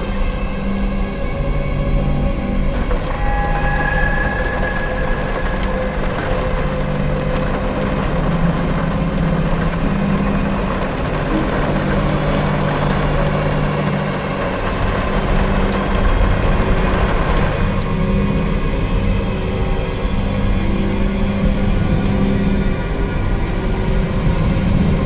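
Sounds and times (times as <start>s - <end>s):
low drone: 0.0s - 25.0s.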